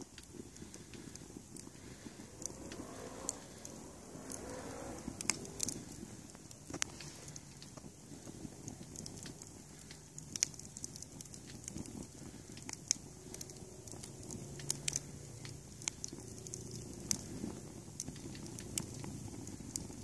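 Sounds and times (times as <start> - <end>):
kindling fire crackling and popping: 0.0 - 20.0
low rumble of flame: 0.0 - 20.0.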